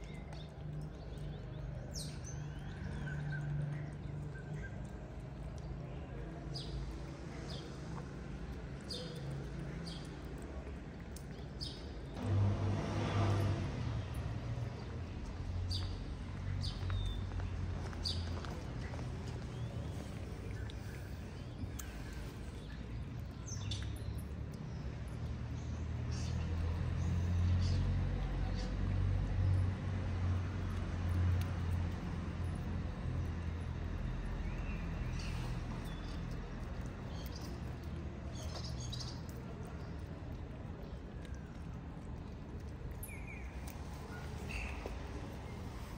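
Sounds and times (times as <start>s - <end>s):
vehicle engine hum: 0.0s - 45.9s.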